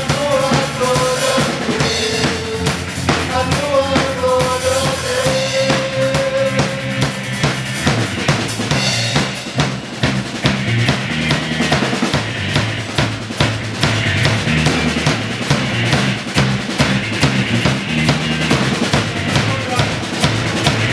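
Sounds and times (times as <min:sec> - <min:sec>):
bass drum and snare beating: 0:00.0 - 0:20.9
electric bass: 0:00.0 - 0:20.9
electric guitar: 0:00.0 - 0:20.9.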